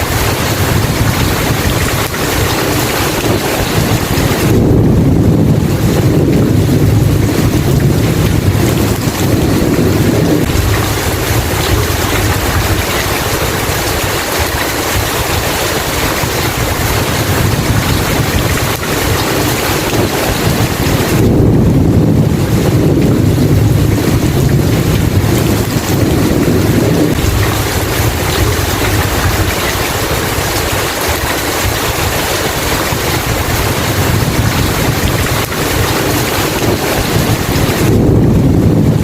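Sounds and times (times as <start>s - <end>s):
heavy rain: 0.0s - 39.0s
rolling thunder rumble: 0.0s - 39.0s.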